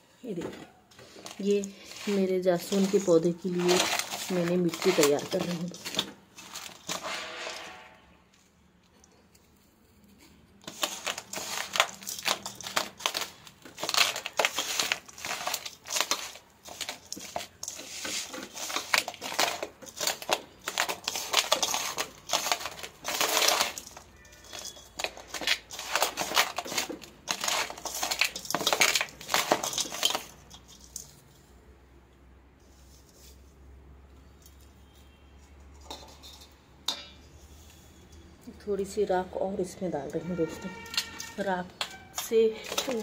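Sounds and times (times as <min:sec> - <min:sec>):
hand kneading soil in metal bowl: 0:00.3 - 0:08.4, 0:09.0 - 0:31.5, 0:32.6 - 0:33.8, 0:38.5 - 0:43.0.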